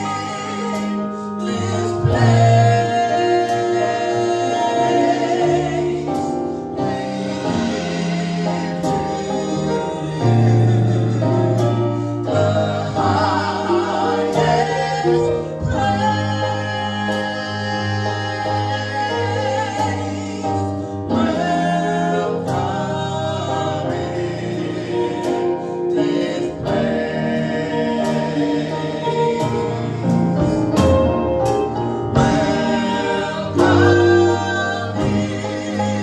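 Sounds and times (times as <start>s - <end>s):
gospel band playing: 0.0s - 36.0s
group singing: 0.0s - 36.0s.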